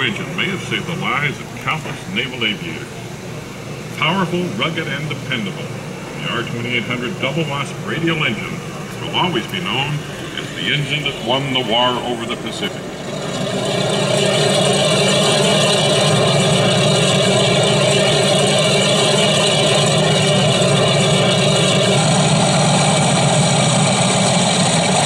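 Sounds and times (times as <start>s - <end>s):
aircraft engine through speakers: 0.0s - 25.0s.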